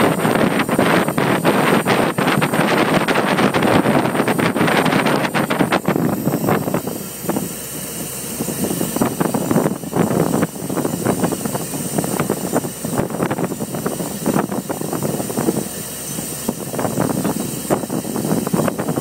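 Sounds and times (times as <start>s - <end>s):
boat engine running: 0.0s - 19.0s
wind and sea hiss: 0.0s - 19.0s.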